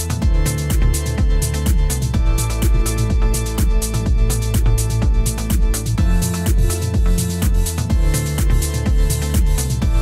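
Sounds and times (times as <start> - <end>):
electronic music with fast beat: 0.0 - 10.0.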